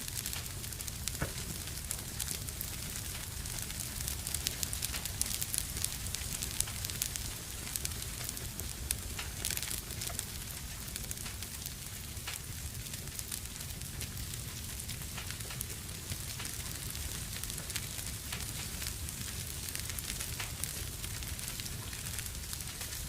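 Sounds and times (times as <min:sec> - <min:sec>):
fire crackling in a fireplace: 0:00.0 - 0:23.0
low rumble and hiss: 0:00.0 - 0:23.0.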